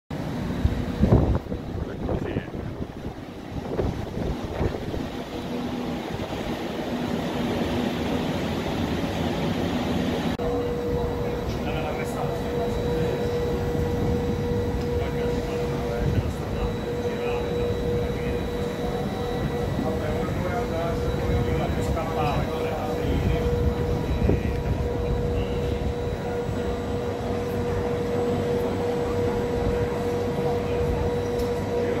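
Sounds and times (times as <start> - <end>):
stationary train humming: 0.1 - 32.0.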